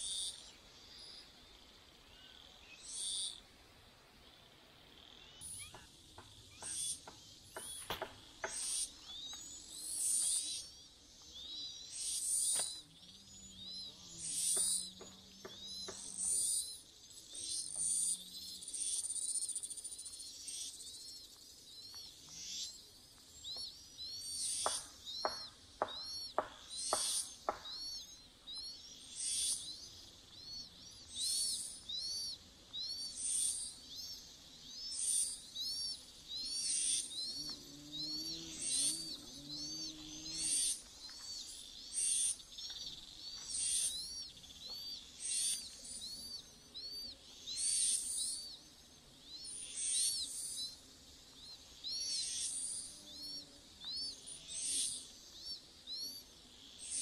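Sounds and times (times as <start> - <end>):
nestlings chirping high-pitched: 5.2 - 22.8, 23.4 - 57.0.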